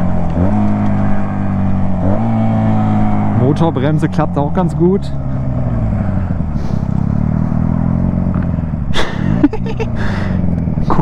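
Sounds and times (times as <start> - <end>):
motorcycle engine braking: 0.0 - 11.0.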